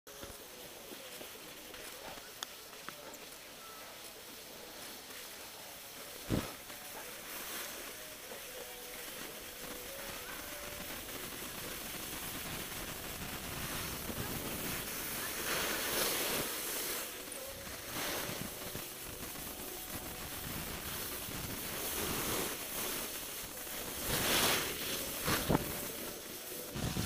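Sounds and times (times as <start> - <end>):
skis hissing over snow: 0.1 - 27.0.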